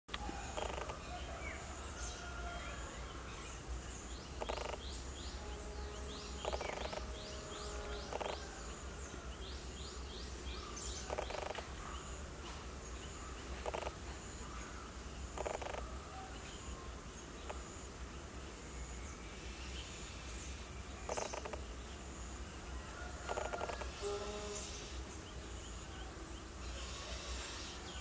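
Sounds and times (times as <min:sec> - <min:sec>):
birds calling: 0:00.1 - 0:28.0.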